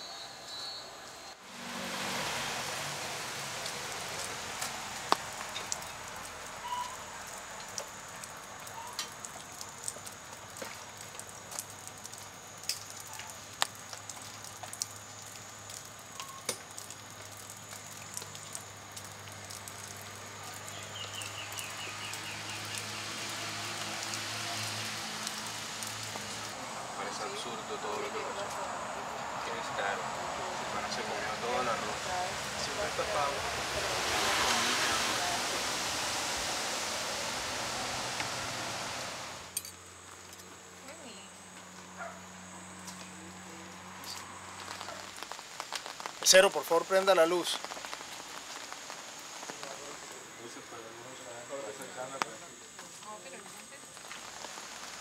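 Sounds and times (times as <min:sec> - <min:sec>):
steady hiss: 0:01.3 - 0:41.3, 0:42.2 - 0:55.0.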